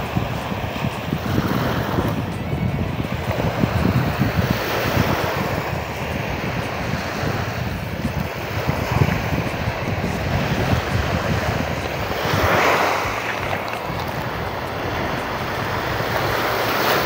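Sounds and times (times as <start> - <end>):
waves breaking on sandy beach: 0.0 - 17.0
wind buffeting microphone: 0.0 - 17.0.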